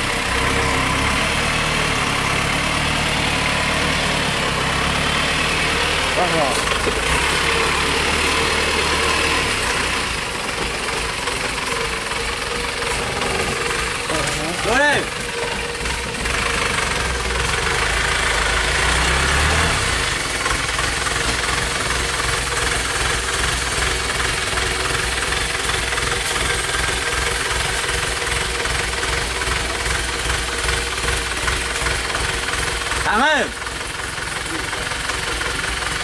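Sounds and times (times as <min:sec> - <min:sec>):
diesel engine knocking idle: 0:00.0 - 0:36.0.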